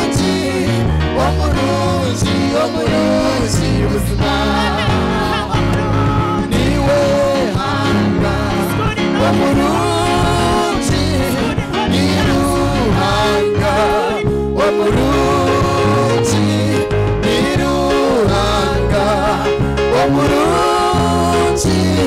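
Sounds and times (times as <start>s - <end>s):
choir singing: 0.0s - 22.0s
instrumental accompaniment with bass: 0.0s - 22.0s.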